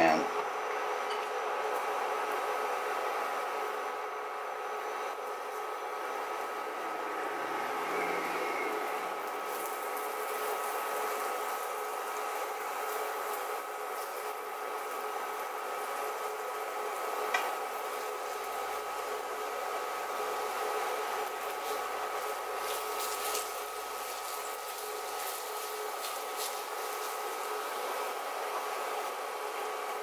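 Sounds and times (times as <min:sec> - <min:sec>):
thin steady whine: 0:00.0 - 0:30.0
chicken sizzling in oil: 0:05.2 - 0:30.0.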